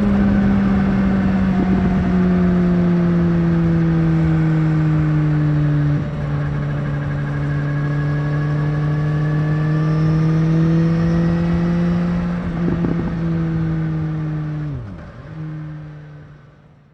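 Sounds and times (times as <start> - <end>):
motorcycle engine revving: 0.0 - 16.4.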